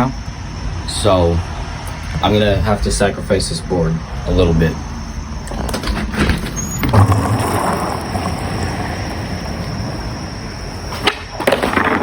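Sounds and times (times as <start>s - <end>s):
wheels rolling on wet pavement: 0.0s - 12.0s.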